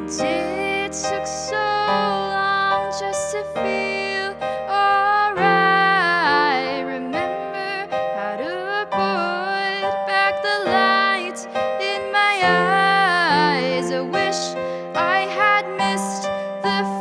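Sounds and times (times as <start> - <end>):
digital piano: 0.0 - 17.0
girl singing pop ballad: 0.0 - 17.0.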